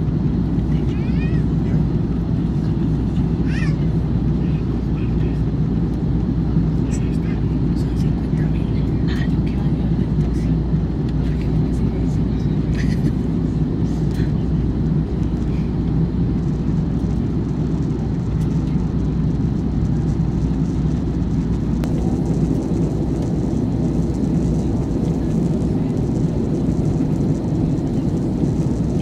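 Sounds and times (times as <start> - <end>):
airplane cabin drone: 0.0 - 29.0.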